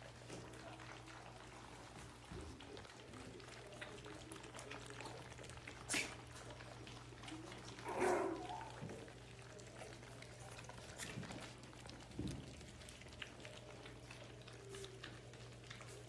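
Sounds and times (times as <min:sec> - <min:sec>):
small scuffling noises: 0:00.0 - 0:16.0.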